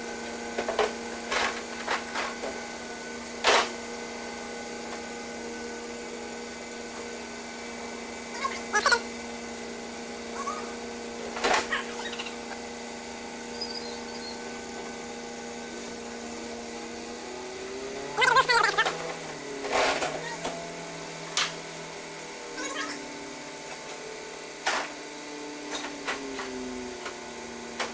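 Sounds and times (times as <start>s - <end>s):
steady mechanical hum: 0.0s - 27.9s.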